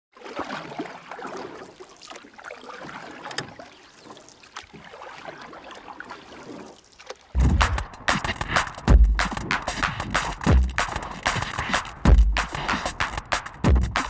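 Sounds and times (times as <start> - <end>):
water sloshing and splashing: 0.1 - 11.6.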